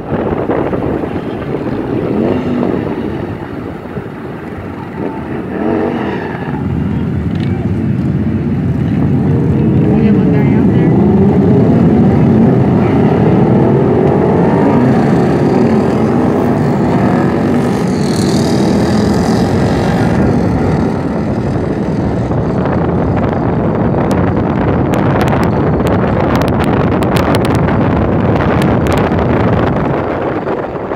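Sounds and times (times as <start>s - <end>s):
high engine whine: 0.0s - 30.9s
motorcycle engines revving: 0.0s - 30.9s.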